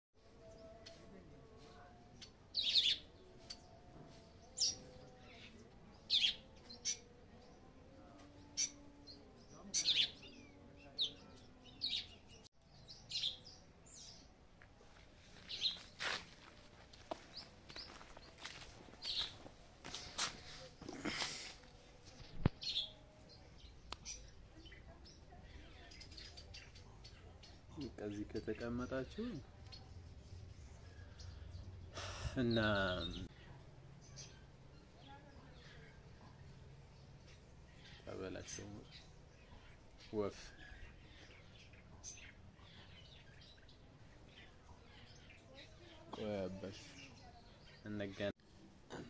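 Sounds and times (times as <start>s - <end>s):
bird chirp: 0.2s - 14.4s, 21.9s - 48.4s.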